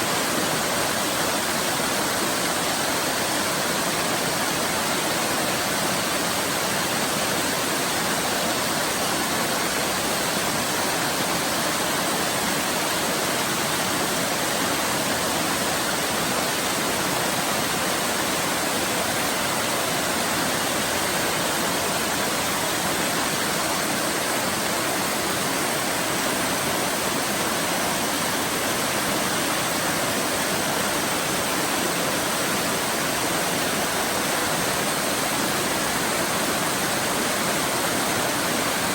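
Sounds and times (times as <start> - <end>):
waterfall pouring: 0.0 - 38.9.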